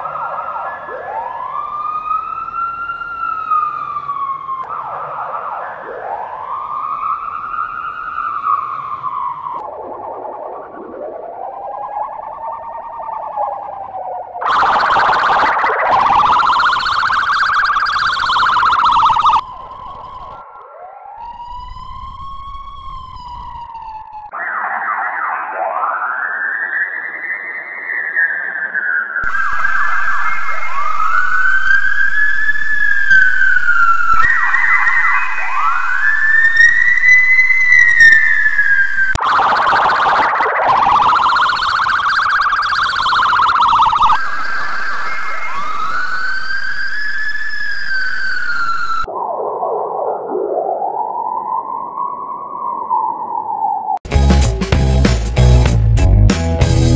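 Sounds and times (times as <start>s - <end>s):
electronically altered siren wail: 0.0s - 54.1s.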